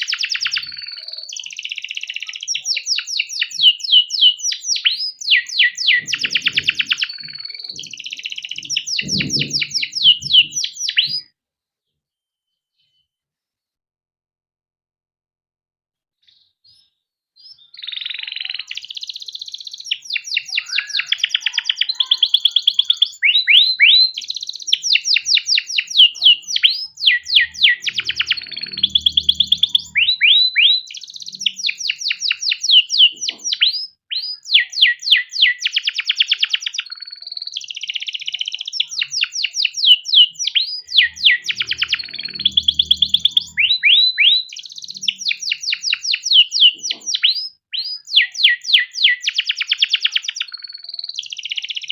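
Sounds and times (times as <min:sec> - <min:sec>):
canary singing trills: 0:00.0 - 0:11.3, 0:16.2 - 0:51.9.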